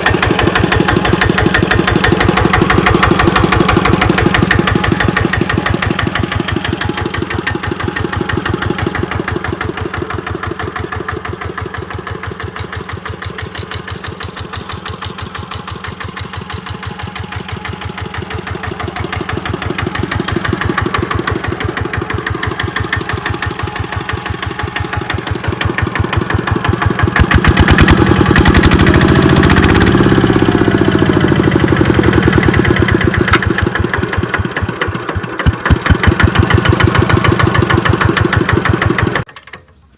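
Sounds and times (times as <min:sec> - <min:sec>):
diesel tractor engine chugging: 0:00.0 - 0:39.3.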